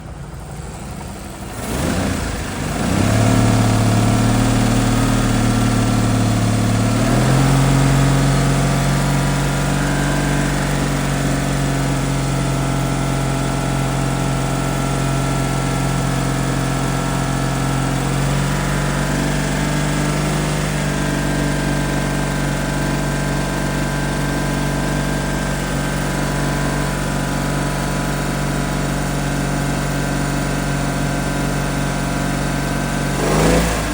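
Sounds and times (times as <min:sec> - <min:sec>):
car engine cranking and idling: 0:00.0 - 0:33.9.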